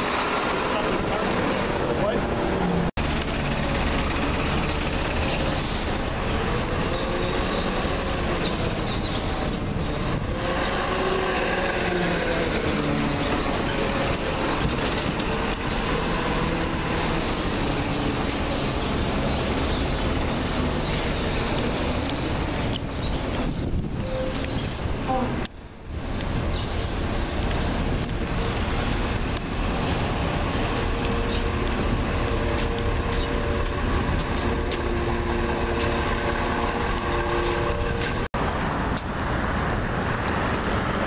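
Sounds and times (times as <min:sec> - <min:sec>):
garbage truck diesel engines: 0:00.0 - 0:25.8, 0:26.4 - 0:41.0.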